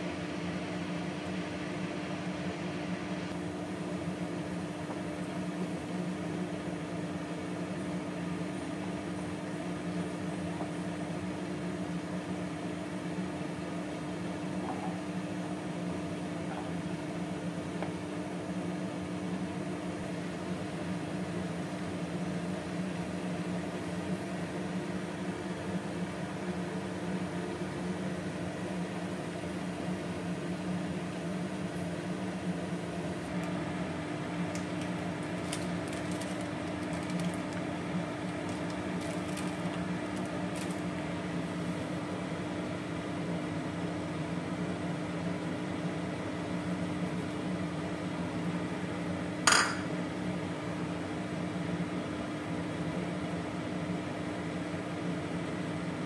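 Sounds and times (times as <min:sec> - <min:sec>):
fan whirring: 0:00.0 - 0:20.9, 0:21.7 - 0:52.6
electrical hum: 0:00.0 - 0:56.0.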